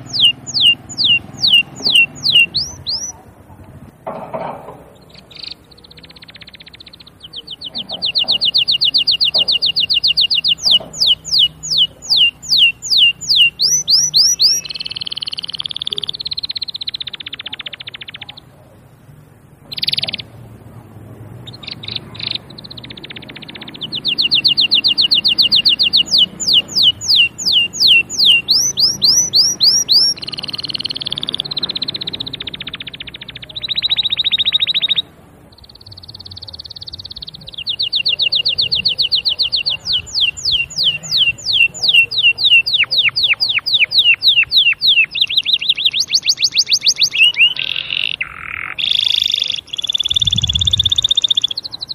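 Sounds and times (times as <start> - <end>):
canary singing whistles and trills: 0.0 - 3.3, 4.9 - 18.9, 19.6 - 20.8, 21.4 - 51.9.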